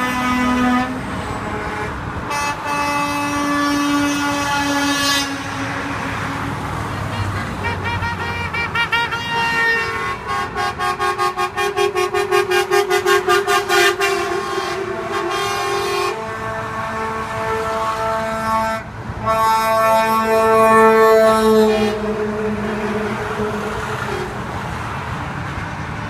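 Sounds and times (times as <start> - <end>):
truck horns honking: 0.0 - 26.0.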